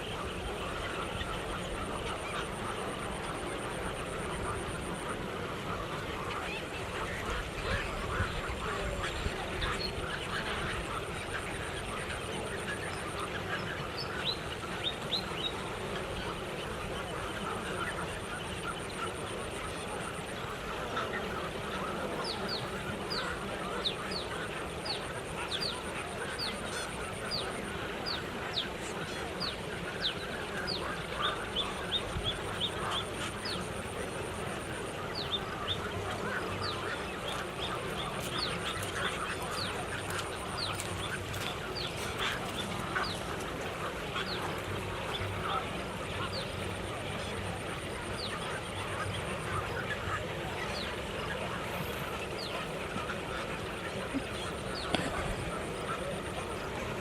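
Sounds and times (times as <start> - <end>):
flock of birds calling: 0.0 - 57.0.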